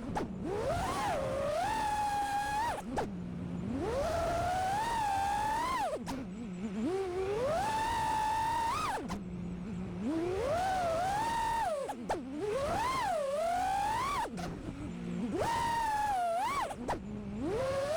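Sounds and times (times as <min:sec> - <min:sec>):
drone motors whining: 0:00.0 - 0:17.9.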